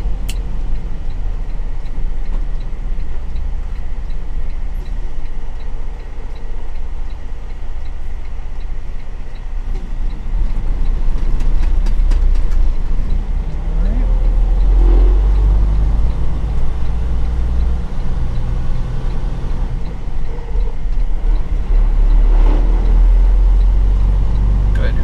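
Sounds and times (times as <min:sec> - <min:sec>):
road noise: 0:00.0 - 0:25.0
truck engine rumbling: 0:00.0 - 0:25.0
turn signal ticking: 0:00.0 - 0:25.0.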